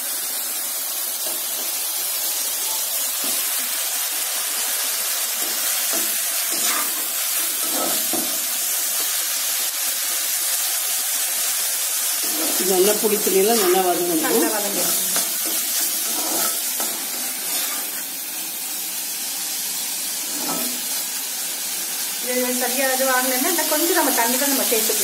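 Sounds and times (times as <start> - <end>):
liquid sizzling in hot oil: 0.0 - 25.0.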